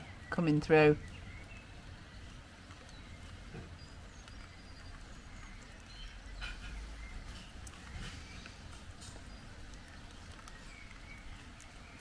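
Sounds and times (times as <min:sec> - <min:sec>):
faint bird chirps: 0:00.0 - 0:12.0
rain hissing: 0:00.0 - 0:12.0.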